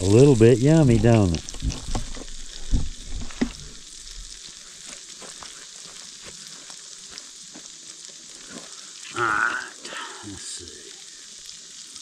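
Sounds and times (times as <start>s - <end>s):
steak sizzling in hot oil: 0.0s - 12.0s.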